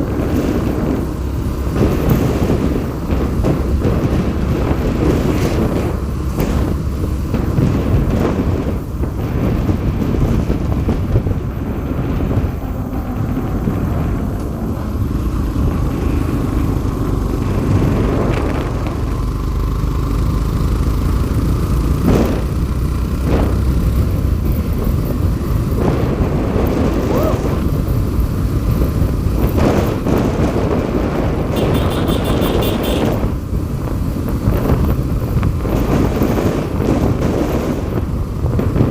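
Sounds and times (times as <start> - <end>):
vehicle engine rumble: 0.0 - 38.9
wind buffeting on microphone: 0.0 - 38.9.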